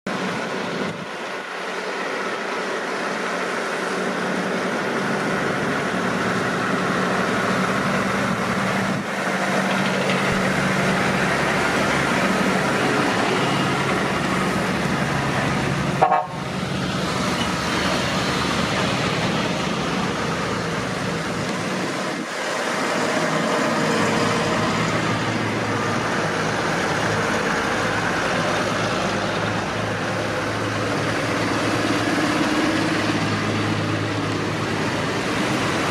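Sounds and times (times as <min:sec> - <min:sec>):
tractor engines driving by: 0:00.1 - 0:35.9.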